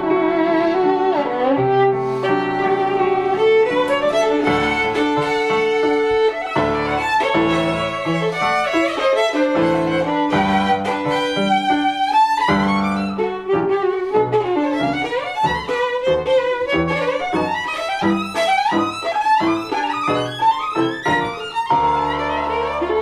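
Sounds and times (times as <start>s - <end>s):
low piano chords: 0.0s - 23.0s
violin melody with pitch slides: 0.0s - 23.0s.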